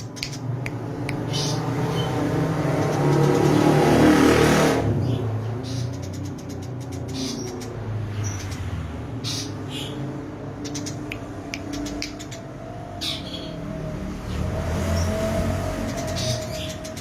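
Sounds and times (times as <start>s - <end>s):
sparrows chirping: 0.0s - 4.1s, 4.8s - 17.0s.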